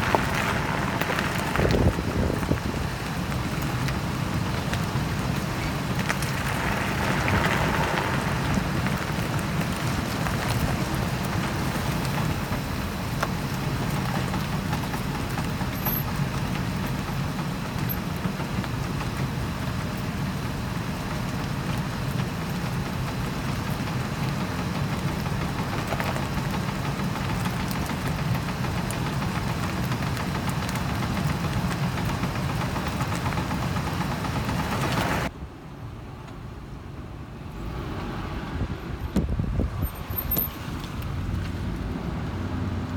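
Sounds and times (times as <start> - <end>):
vehicle driveline running noise: 0.0 - 42.9.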